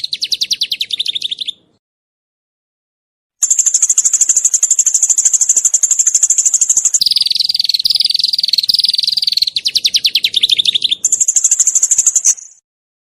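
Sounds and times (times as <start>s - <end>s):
songbirds trilling: 0.0s - 1.8s, 3.4s - 12.6s.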